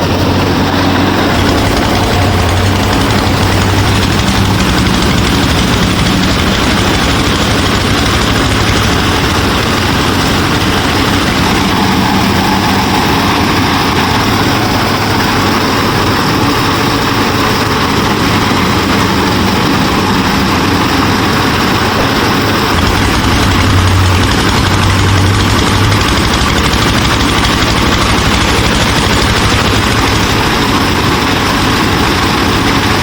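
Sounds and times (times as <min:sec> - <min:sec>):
mini combine harvester running: 0:00.0 - 0:33.0.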